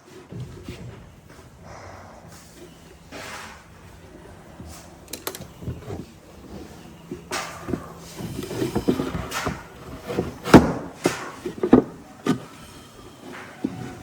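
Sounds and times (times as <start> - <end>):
wood and tools knocking: 0.2 - 14.0.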